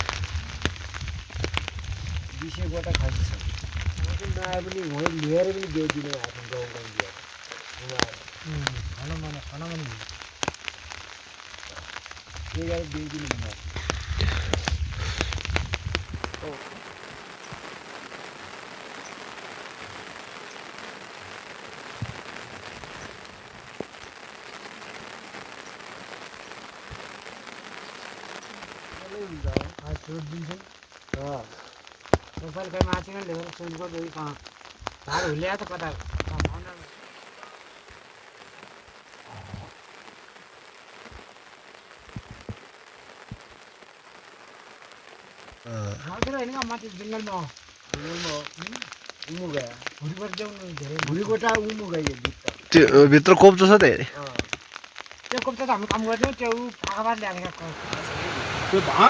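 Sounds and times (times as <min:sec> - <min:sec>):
snow pattering on plastic sheet: 0:00.0 - 0:59.0.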